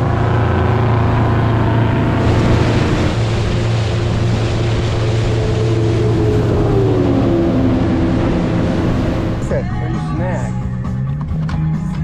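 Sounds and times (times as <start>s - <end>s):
wind and water rushing: 0.0s - 10.6s
motorboat engine droning: 0.0s - 11.3s.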